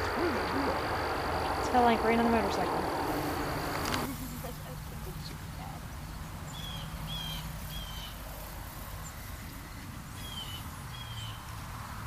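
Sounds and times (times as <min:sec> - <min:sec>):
bird chirping: 0:00.0 - 0:11.6
steady low hum: 0:00.0 - 0:12.0.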